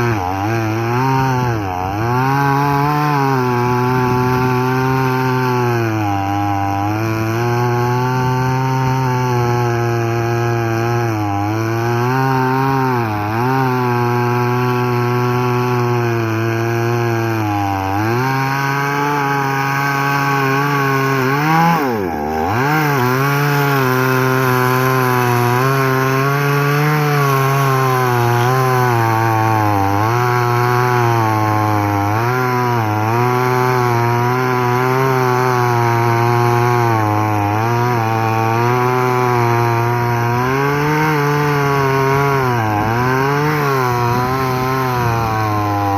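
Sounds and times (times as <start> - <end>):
chainsaw cutting into wood: 0.0 - 45.9.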